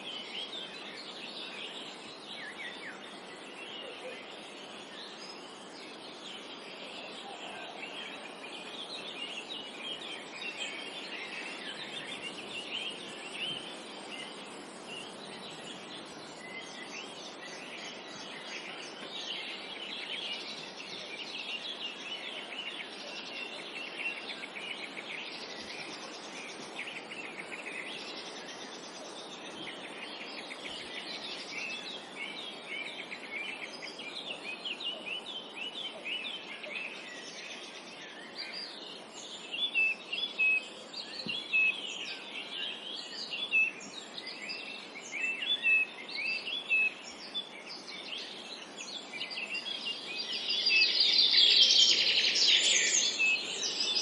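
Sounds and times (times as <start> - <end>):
background hiss: 0.0 - 54.0
songbirds chirping and trilling: 0.0 - 54.0.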